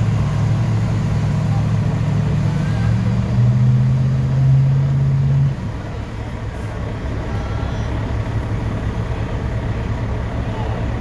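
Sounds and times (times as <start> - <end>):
tractor engine running under load: 0.0 - 11.0.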